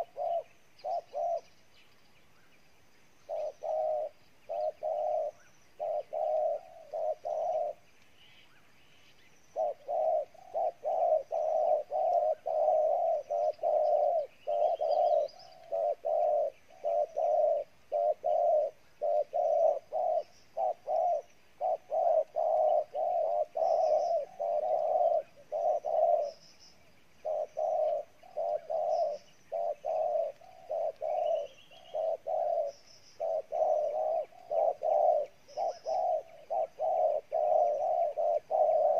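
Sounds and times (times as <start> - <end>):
dove cooing: 0.0 - 1.6, 3.2 - 7.9, 9.5 - 38.9
small birds chirping: 0.0 - 38.9.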